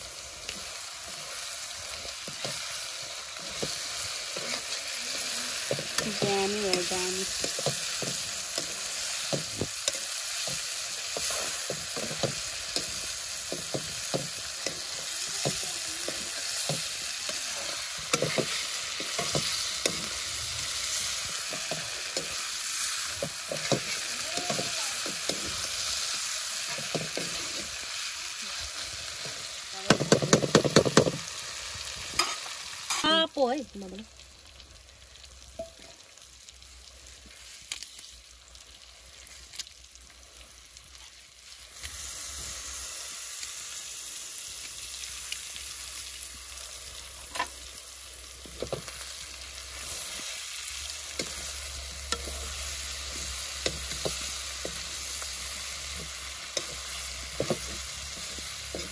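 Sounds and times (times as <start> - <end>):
meat sizzling in oil: 0.0 - 58.9.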